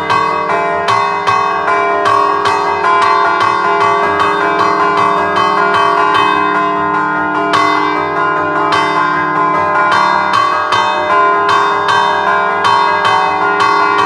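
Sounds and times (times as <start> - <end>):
church bells struck rhythmically: 0.0 - 14.0.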